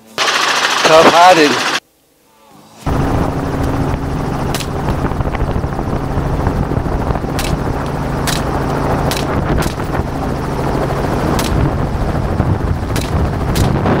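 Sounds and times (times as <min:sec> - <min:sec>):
helicopter rotor and engine drone: 0:00.0 - 0:01.8, 0:02.9 - 0:14.0.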